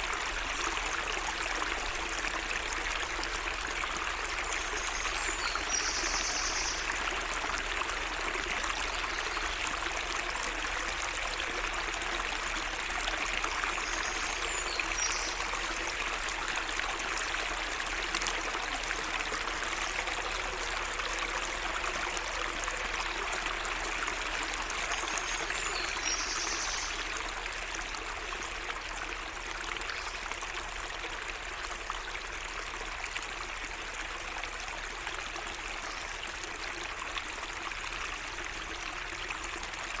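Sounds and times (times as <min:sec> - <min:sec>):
stream trickling over stones: 0:00.0 - 0:40.0.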